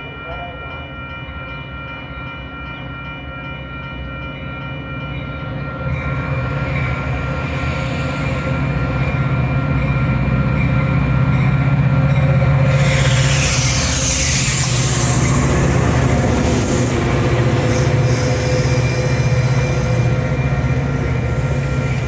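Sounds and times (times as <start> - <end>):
diesel train approaching: 0.0 - 22.0.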